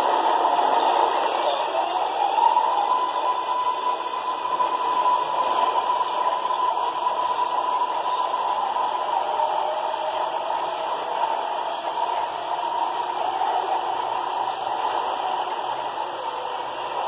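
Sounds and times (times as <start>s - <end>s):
faint steady whine: 0.0s - 17.0s
subway train wheels rumbling: 0.0s - 17.0s.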